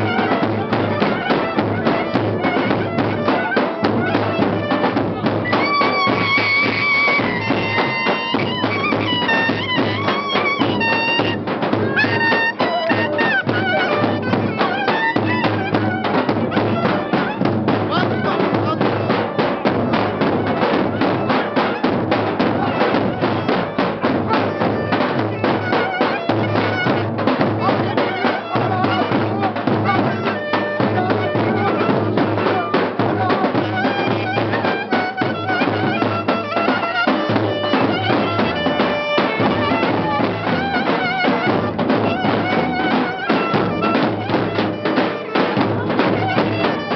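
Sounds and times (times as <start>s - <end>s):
clarinet melody: 0.0s - 46.9s
fast drum beat: 0.0s - 46.9s.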